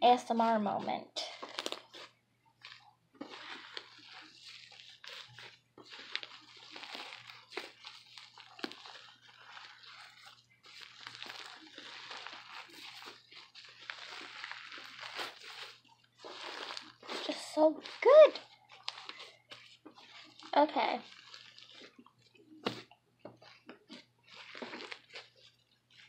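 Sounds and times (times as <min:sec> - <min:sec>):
slime crackling and popping: 0:01.2 - 0:26.0.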